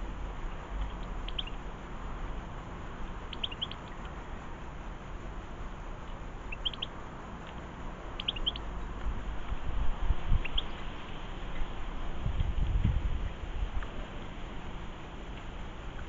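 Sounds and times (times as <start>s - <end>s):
low background rumble: 0.0s - 16.0s
small songbird chirping: 0.0s - 16.0s.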